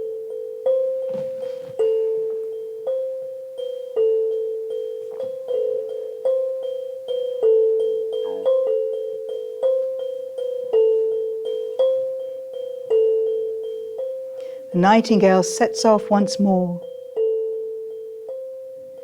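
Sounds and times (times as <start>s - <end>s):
struck ringing notes music: 0.0s - 19.0s.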